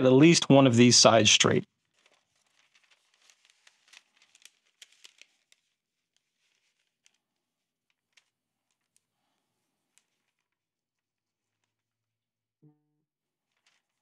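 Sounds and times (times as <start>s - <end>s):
parchment paper crinkling: 0.2s - 12.4s, 13.3s - 14.0s.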